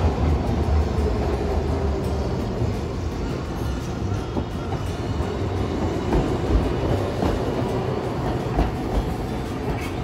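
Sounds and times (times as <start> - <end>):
streetcar rumbling: 0.0 - 10.0.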